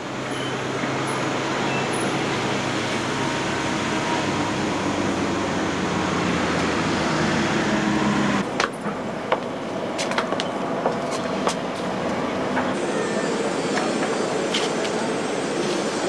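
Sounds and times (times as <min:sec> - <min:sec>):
vehicle engine humming: 0:00.0 - 0:15.6.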